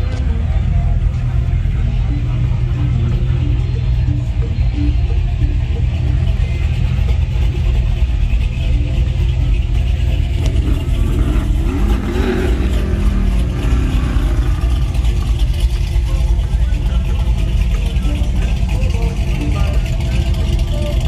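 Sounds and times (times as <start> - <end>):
engine revving: 0.0 - 21.0
vehicle engines rumbling: 0.0 - 21.0.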